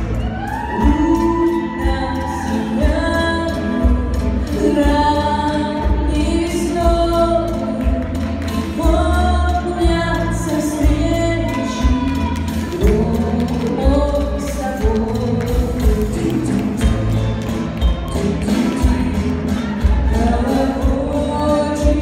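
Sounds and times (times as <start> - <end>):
live band playing a waltz: 0.0 - 22.0.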